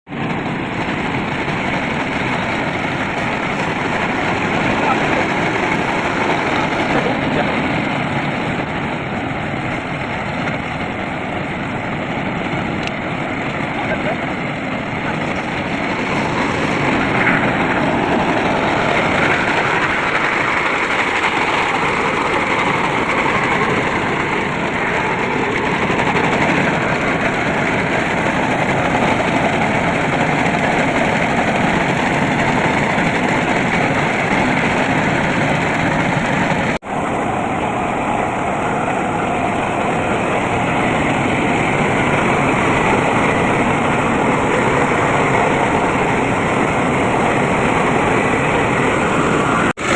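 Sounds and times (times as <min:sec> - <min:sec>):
tractor engine running: 0:00.1 - 0:49.9.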